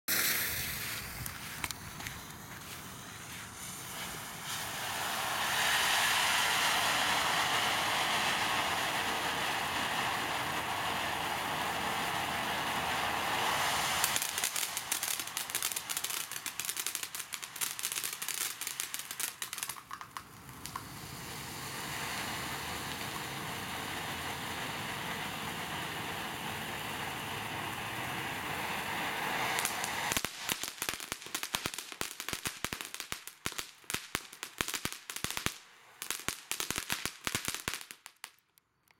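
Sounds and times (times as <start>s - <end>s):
firework fountain hissing: 0.1s - 38.4s
firework crackling: 0.1s - 38.8s.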